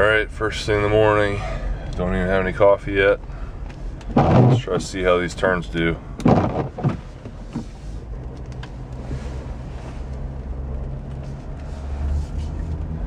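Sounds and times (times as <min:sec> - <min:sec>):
truck engine drone from inside: 0:00.0 - 0:13.0.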